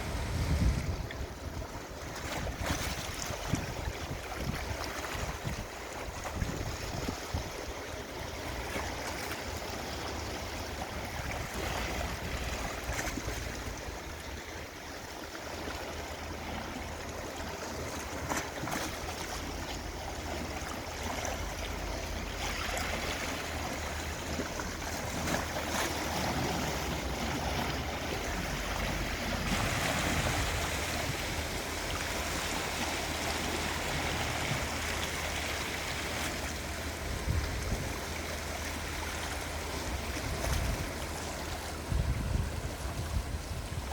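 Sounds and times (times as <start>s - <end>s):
sea waves lapping on shore: 0.0s - 43.9s.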